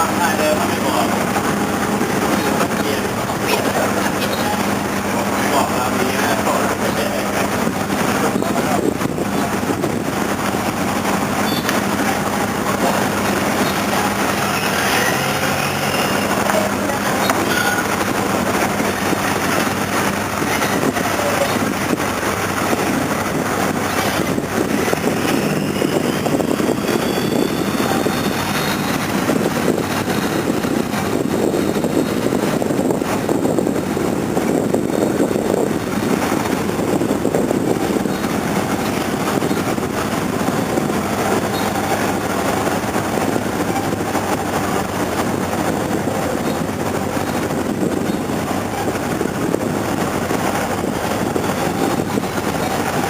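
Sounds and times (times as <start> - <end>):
boat engine running: 0.0 - 53.0
water rushing: 0.0 - 53.0.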